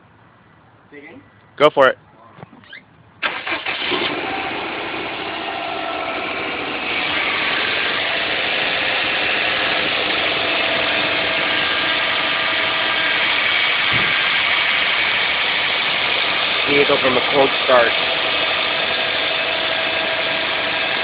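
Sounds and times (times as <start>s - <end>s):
car engine starting and idling: 3.2s - 21.0s.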